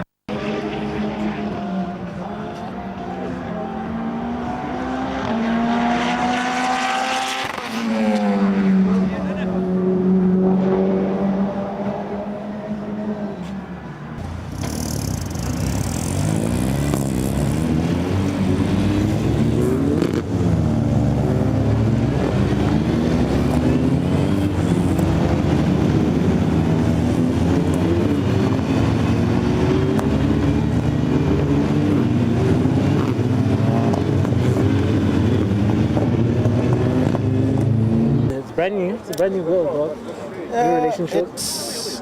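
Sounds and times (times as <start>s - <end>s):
race car engine revving: 3.2s - 13.4s, 14.2s - 38.4s.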